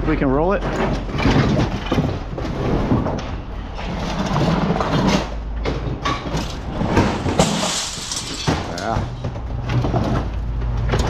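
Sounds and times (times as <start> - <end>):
scrap metal rattling and clanking: 0.2 - 11.0.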